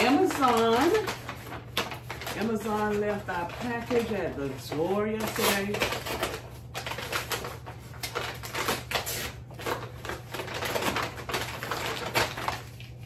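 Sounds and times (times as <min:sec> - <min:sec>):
paper mailer bag crinkling: 0:00.0 - 0:13.0.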